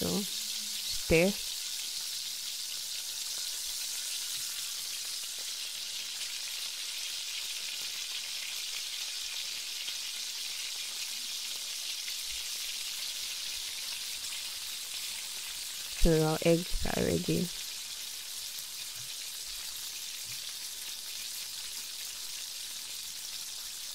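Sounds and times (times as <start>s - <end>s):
eggs sizzling in a frying pan: 0.0s - 23.9s.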